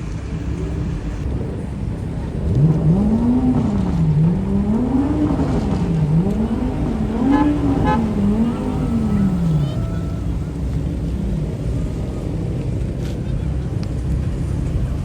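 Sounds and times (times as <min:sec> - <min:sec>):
car engine revving: 0:00.2 - 0:15.0.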